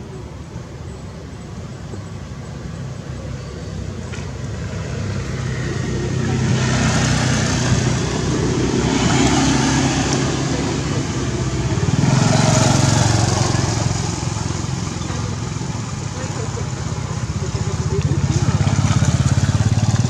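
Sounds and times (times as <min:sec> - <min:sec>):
vehicle engine running: 0:01.6 - 0:20.0.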